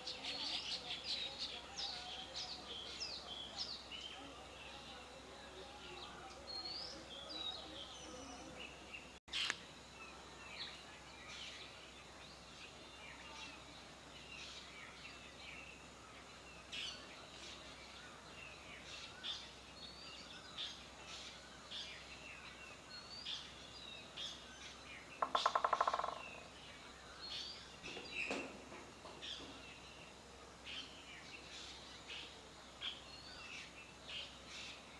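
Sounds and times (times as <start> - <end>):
outdoor hiss: 0.0 - 25.2, 26.3 - 34.9
small birds chirping: 0.0 - 34.9.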